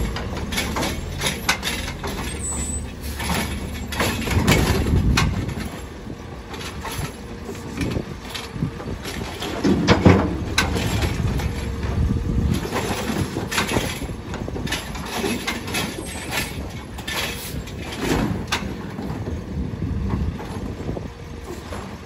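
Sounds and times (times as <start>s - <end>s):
clunks of plastic carts: 0.0s - 5.9s, 6.5s - 22.0s
hydraulic arm working: 0.0s - 19.3s
garbage truck running: 0.0s - 22.0s.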